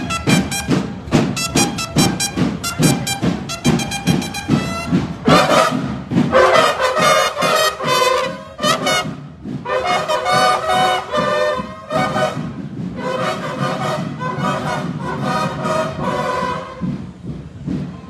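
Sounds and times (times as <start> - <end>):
marching band brass horns: 0.0 - 17.6
steady drumbeat: 0.0 - 18.0.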